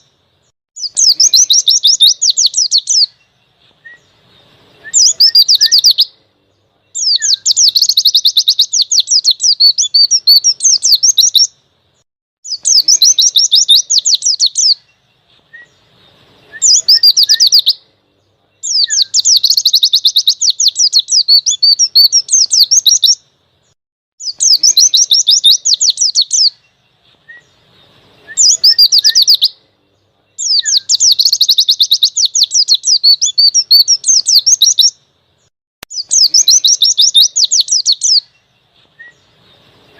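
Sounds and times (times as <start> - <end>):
bird high twittering song: 0.0 - 39.9.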